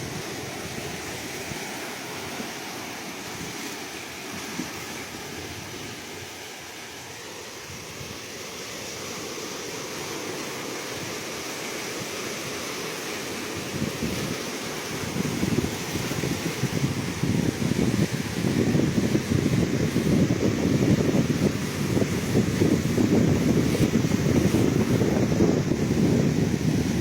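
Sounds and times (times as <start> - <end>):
ocean waves washing in: 0.0 - 27.0.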